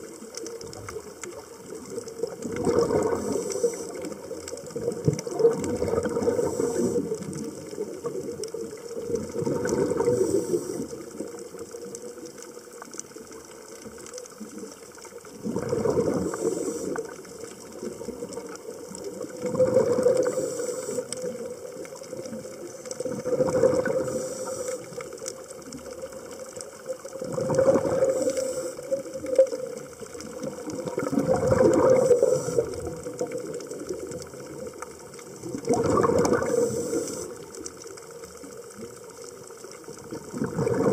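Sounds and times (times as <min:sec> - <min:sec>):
scuba exhaled bubbles: 0:00.0 - 0:40.9.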